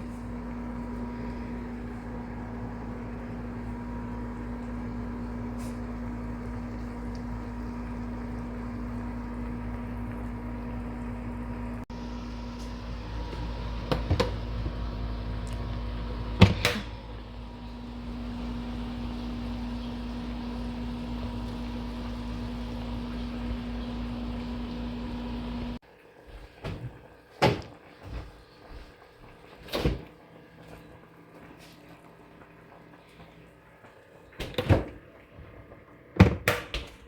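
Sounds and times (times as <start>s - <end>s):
kitchen appliance humming: 0.0s - 37.0s.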